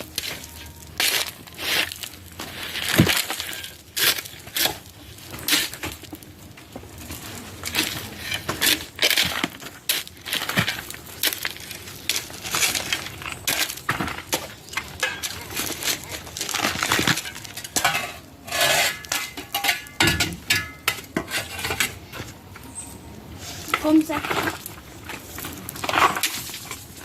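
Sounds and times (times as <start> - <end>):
gritty crunching and scraping: 0.0 - 27.0.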